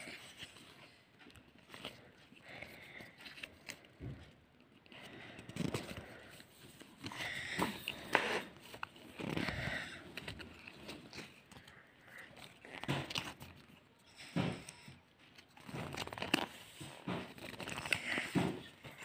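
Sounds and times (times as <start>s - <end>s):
trading cards rustling and clicking: 0.0s - 19.0s.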